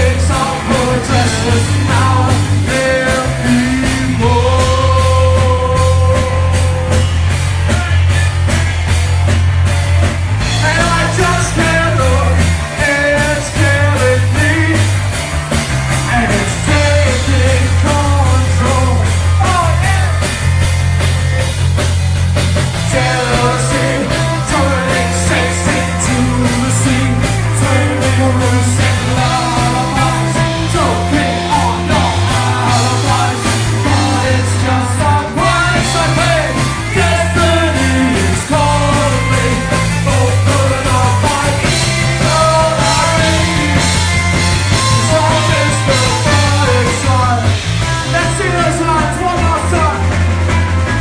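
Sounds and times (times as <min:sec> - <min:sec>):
bass guitar steady steps: 0:00.0 - 0:51.0
rock band playing live: 0:00.0 - 0:51.0.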